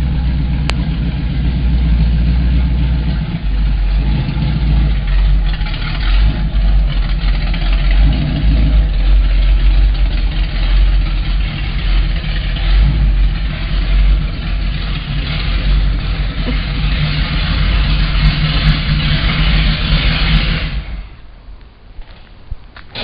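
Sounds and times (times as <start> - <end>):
pickup engine running: 0.0 - 23.0.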